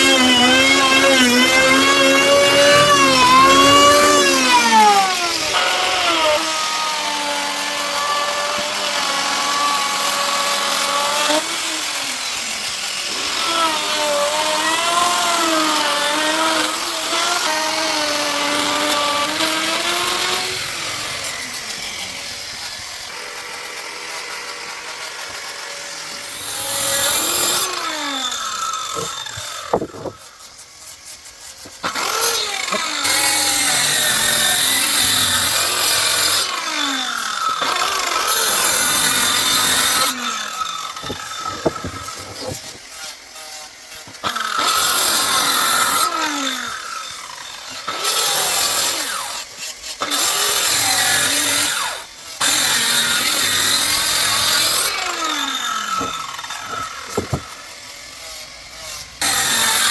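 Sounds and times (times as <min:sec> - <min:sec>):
power tool cutting wood: 0:00.0 - 0:59.9.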